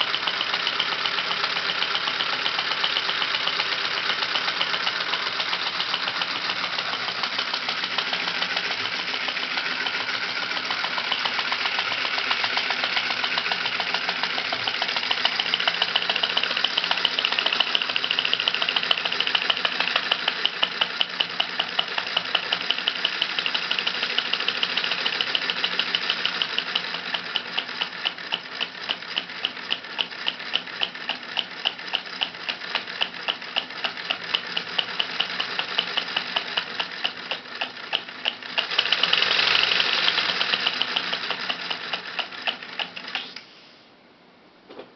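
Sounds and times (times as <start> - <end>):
model engine clattering: 0.0 - 43.4.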